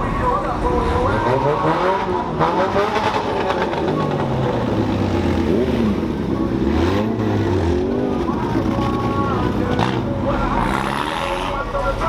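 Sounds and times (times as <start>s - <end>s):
car engine rumbling: 0.0s - 12.0s
crowd voices: 0.0s - 12.0s.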